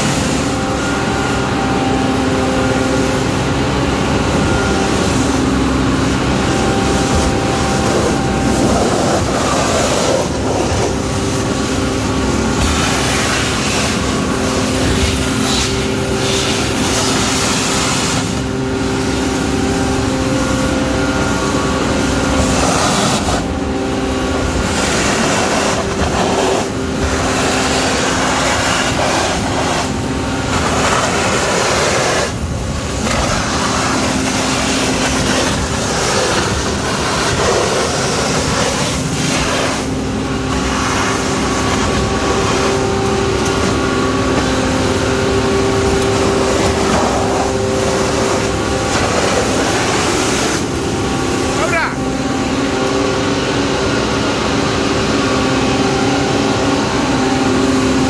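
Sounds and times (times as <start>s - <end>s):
truck machinery droning: 0.0s - 58.0s.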